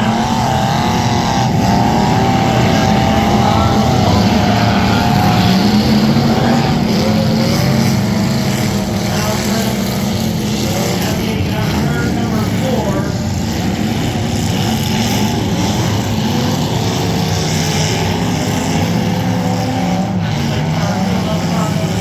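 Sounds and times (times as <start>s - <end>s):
car engines revving loudly: 0.0s - 22.0s.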